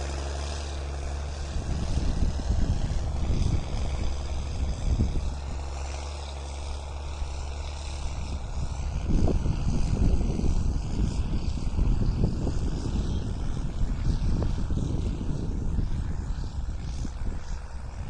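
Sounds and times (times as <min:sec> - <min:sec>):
tractor diesel engine: 0:00.0 - 0:18.0.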